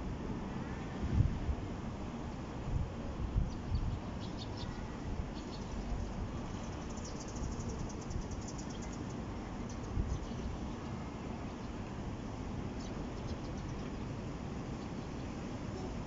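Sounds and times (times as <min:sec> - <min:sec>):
wind rumbling on microphone: 0:00.1 - 0:16.0.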